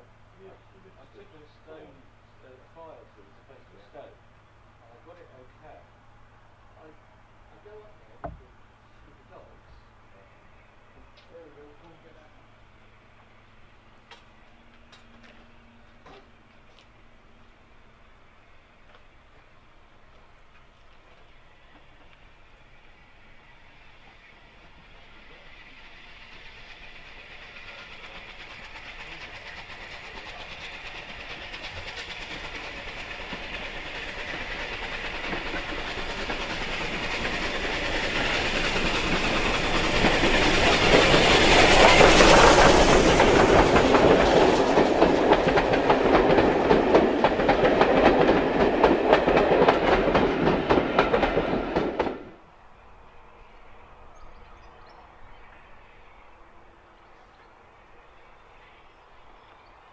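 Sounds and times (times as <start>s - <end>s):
steam locomotive passing: 0.0s - 59.9s.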